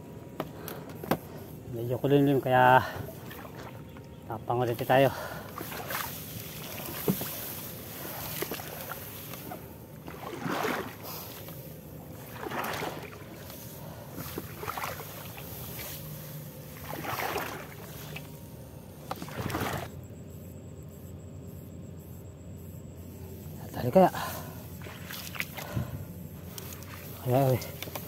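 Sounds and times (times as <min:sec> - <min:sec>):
shallow water splashing: 0:01.2 - 0:20.0, 0:23.7 - 0:28.0.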